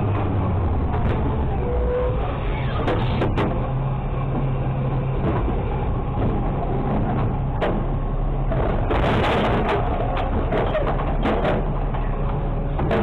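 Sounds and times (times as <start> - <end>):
garbage truck engine hum: 0.0 - 13.0.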